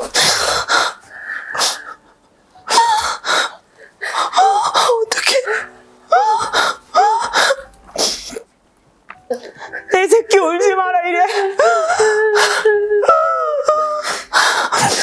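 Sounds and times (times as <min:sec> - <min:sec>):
woman sobbing: 0:00.0 - 0:08.5, 0:09.3 - 0:15.0.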